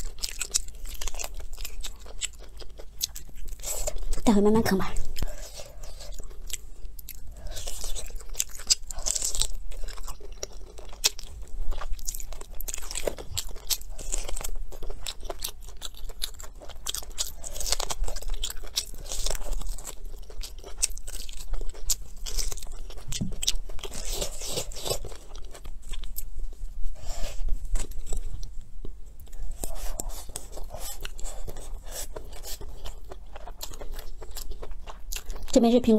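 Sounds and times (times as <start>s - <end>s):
biting and chewing meat: 0.0s - 35.6s.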